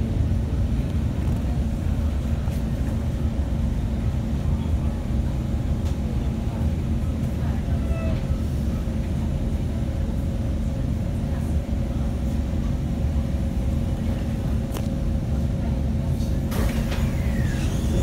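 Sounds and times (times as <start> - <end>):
train low rumble: 0.0 - 18.0.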